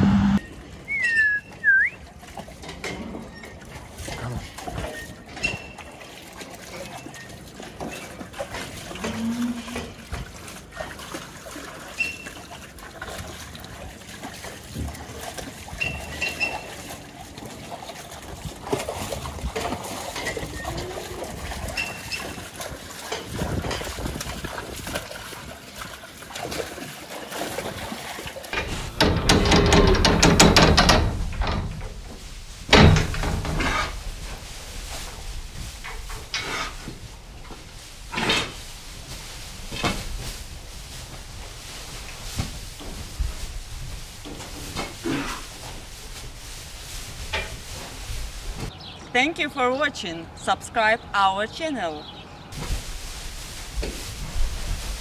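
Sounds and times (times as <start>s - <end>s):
cows shifting about: 0.1s - 55.0s
water trickling and splashing: 0.4s - 55.0s.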